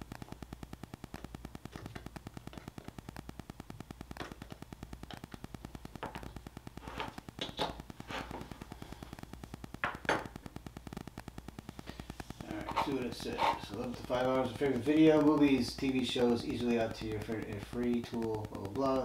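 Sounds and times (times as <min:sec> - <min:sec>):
fast electronic ticking buzz: 0:00.0 - 0:19.0.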